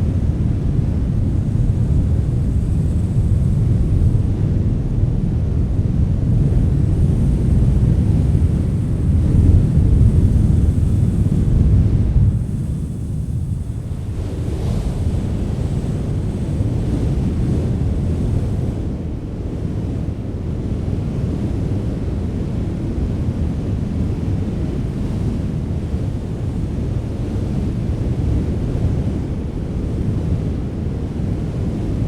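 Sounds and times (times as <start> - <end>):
strong wind blowing: 0.0 - 32.0.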